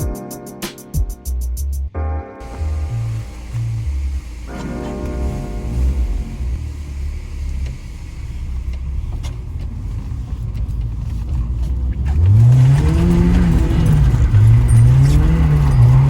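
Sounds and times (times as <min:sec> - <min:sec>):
car engine revving: 0:02.4 - 0:16.0.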